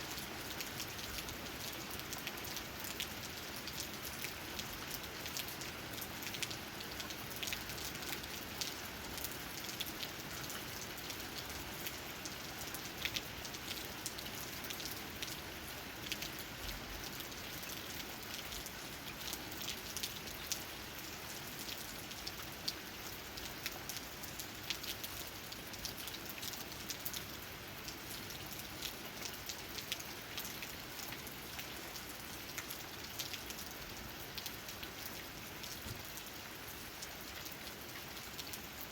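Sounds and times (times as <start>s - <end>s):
continuous rain hiss: 0.0s - 38.9s
raindrops pattering on leaves: 0.0s - 38.9s.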